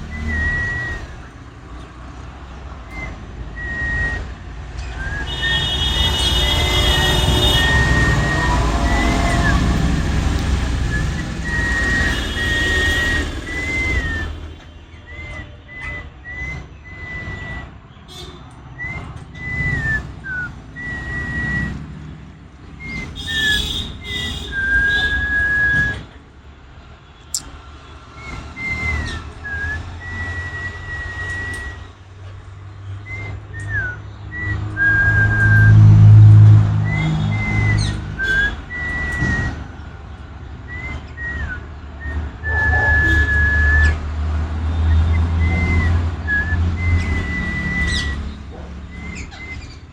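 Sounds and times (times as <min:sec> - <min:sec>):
person whistling: 0:00.0 - 0:01.3, 0:02.9 - 0:17.7, 0:18.8 - 0:21.9, 0:22.8 - 0:26.1, 0:28.5 - 0:31.9, 0:33.1 - 0:39.6, 0:40.7 - 0:44.0, 0:44.8 - 0:49.9.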